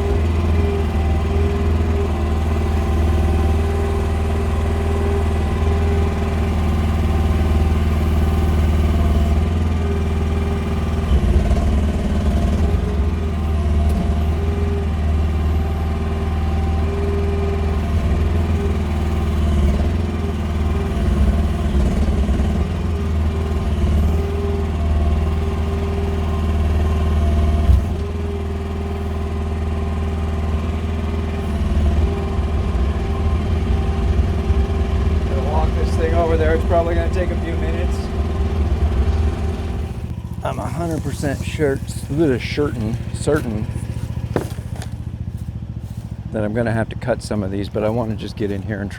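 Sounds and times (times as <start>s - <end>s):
mini excavator engine running: 0.0s - 48.9s.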